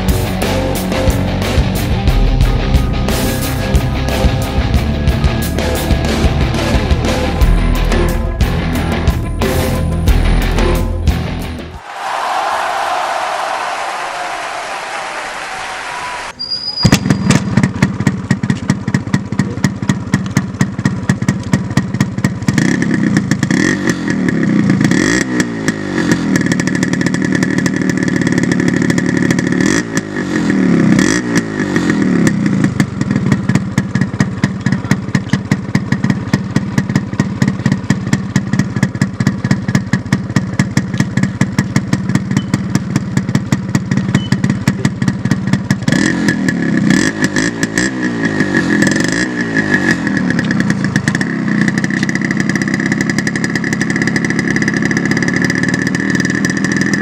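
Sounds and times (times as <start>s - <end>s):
two-stroke motorcycle engine revving: 0.0s - 11.7s, 16.9s - 57.0s.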